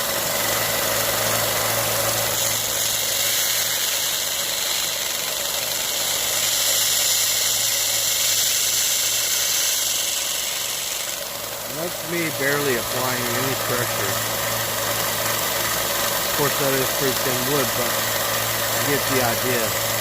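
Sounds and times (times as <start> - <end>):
belt sander motor hum: 0.0 - 20.0
sanding belt hiss on wood: 1.4 - 20.0.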